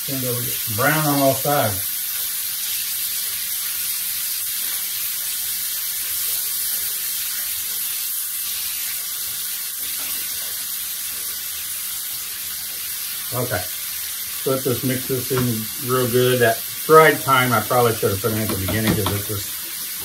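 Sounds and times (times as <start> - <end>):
meat and onions sizzling in skillet: 0.0 - 20.0.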